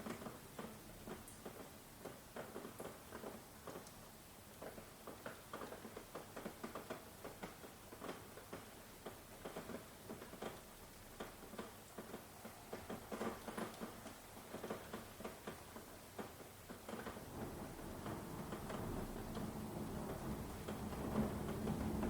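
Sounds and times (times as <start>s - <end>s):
faint rain hiss: 0.0s - 22.0s
raindrops tapping: 0.0s - 22.0s.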